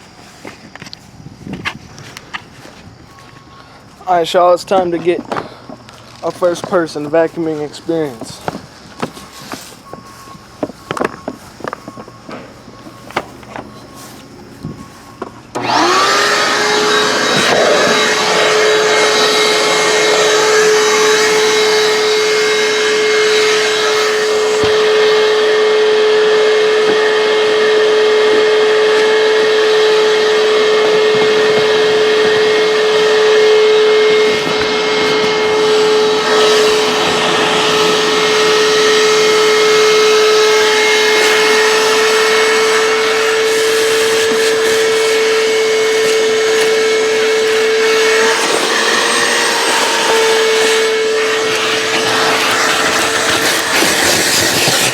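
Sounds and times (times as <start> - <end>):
vacuum cleaner running: 6.2 - 10.3, 11.0 - 54.9.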